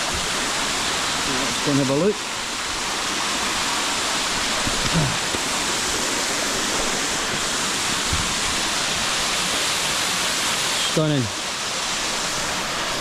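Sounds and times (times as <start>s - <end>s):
waterfall pouring into pool: 0.0s - 13.0s.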